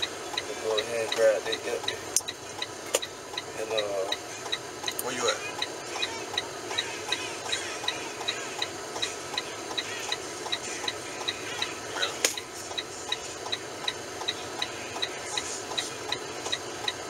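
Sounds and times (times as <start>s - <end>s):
low cab hum: 0.0s - 17.0s
truck indicator ticking: 0.0s - 17.0s.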